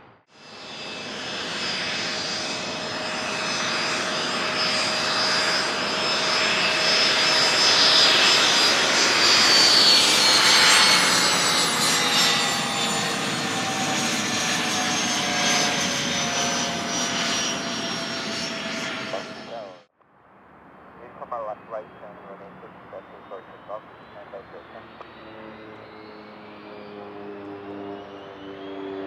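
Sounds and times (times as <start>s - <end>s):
jet plane passing: 0.0s - 29.0s
high whining jet tones: 0.4s - 19.9s, 20.7s - 29.0s.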